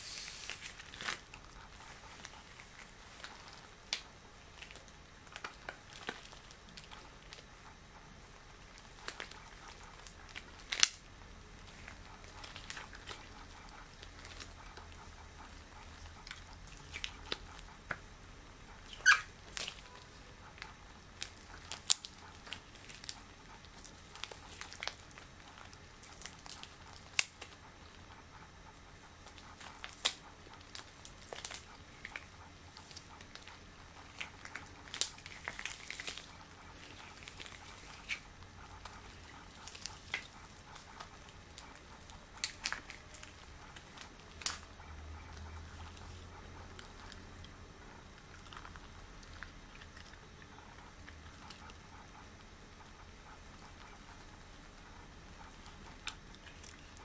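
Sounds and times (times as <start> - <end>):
latex gloves rubbing and snapping: 0.0 - 57.0.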